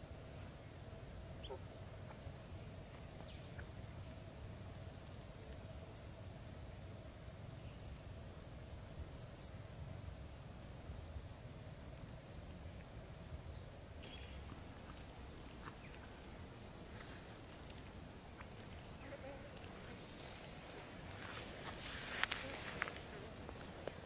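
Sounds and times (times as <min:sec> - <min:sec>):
faint steady hum: 0:00.0 - 0:24.0
small birds chirping: 0:00.1 - 0:24.0.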